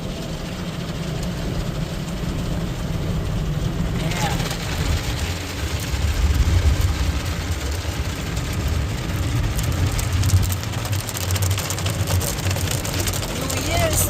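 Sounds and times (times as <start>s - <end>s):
car wash machinery rumble: 0.0s - 14.0s
water spray hissing on vehicle: 0.0s - 14.0s.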